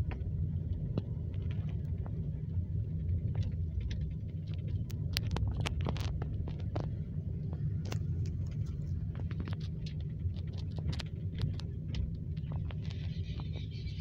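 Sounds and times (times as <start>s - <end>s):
car engine and tyres rumbling: 0.0s - 14.0s
light clicks and ticks: 0.0s - 14.0s.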